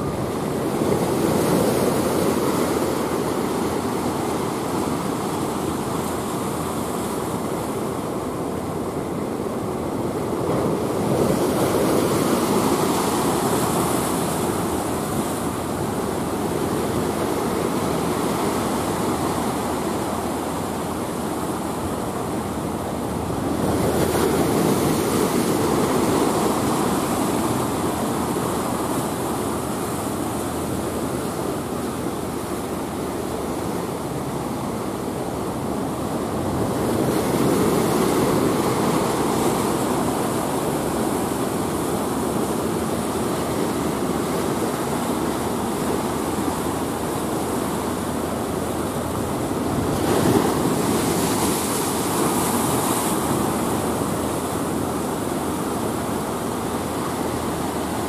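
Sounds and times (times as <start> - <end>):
waves breaking on rocky shore: 0.0 - 58.0.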